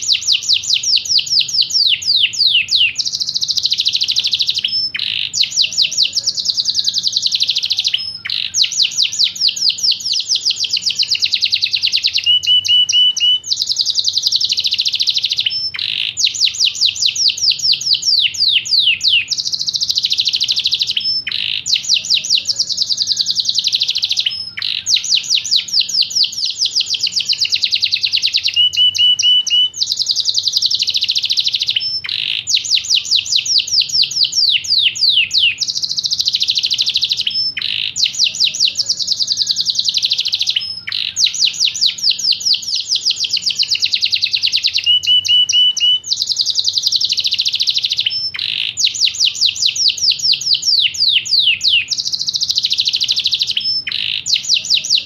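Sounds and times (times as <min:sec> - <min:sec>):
canary singing rapid trills: 0:00.0 - 0:55.0.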